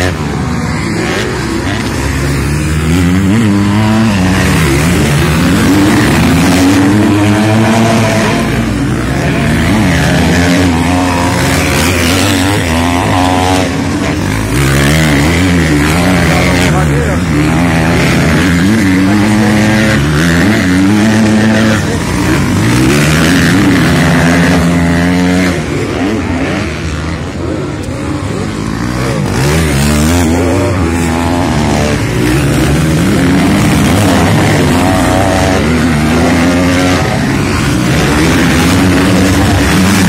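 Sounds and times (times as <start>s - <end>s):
motocross engines revving: 0.0s - 40.0s.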